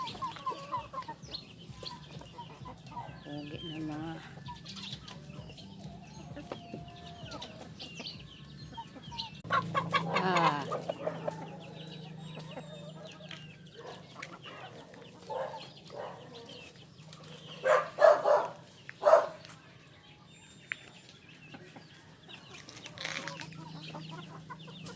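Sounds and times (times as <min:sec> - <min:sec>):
chickens clucking: 0:00.0 - 0:24.9
chickens squawking: 0:00.0 - 0:24.9.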